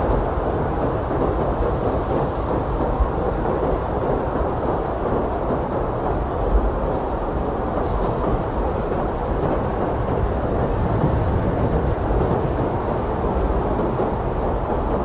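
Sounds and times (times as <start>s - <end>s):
blizzard wind blowing hard: 0.0s - 15.0s.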